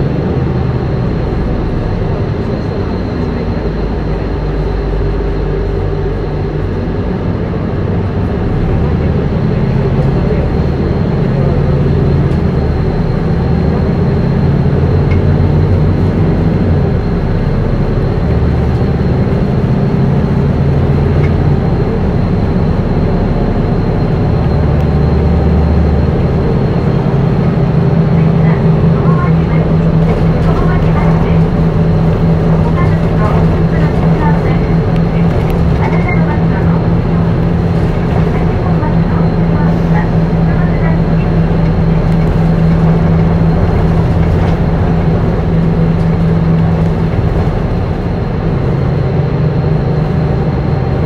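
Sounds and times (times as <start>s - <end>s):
bus diesel engine accelerating: 0.0s - 51.0s.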